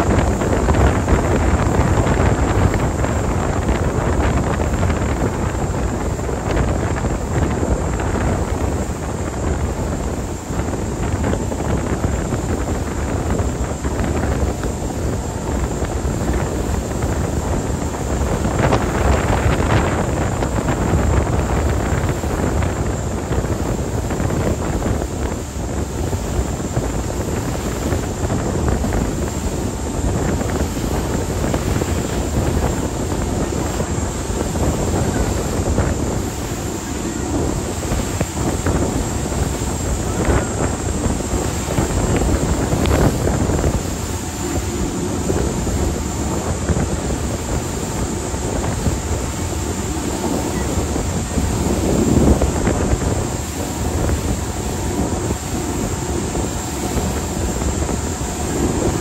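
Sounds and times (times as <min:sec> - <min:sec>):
ship engines running: 0:00.0 - 0:59.0
wind buffeting microphone: 0:00.0 - 0:59.0.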